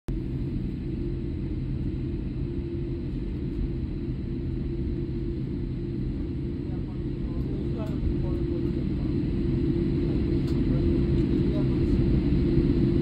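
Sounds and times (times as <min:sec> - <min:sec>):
airplane cabin low rumble: 0:00.1 - 0:13.0
steady engine hum: 0:00.1 - 0:13.0.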